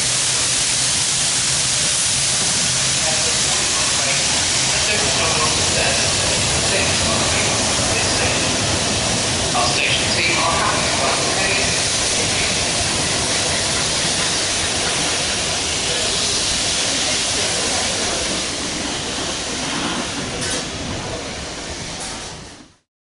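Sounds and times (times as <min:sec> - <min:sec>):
train rushing hiss: 0:00.0 - 0:22.8.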